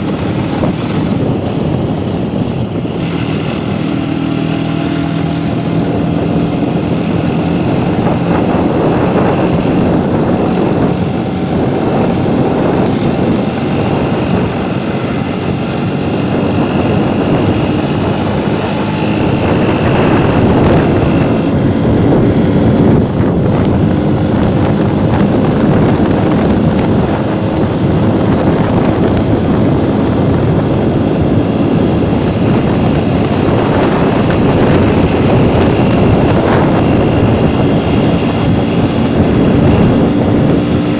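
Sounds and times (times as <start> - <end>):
heavy rushing noise: 0.0 - 40.9
motorcycle engine hum: 0.0 - 40.9.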